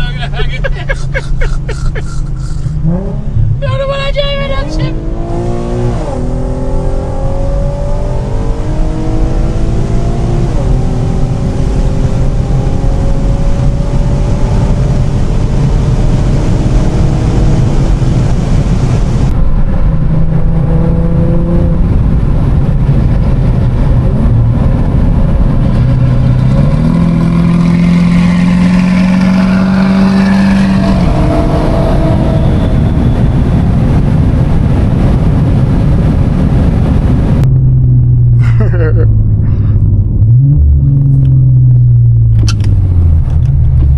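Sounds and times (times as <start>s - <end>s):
car engine accelerating through gears: 2.2s - 3.6s, 4.5s - 43.9s.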